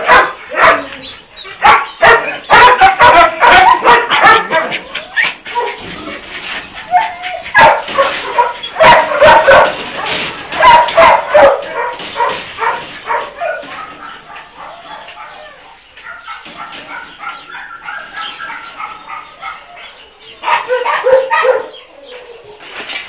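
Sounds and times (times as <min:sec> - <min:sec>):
dogs barking: 0:00.0 - 0:22.7.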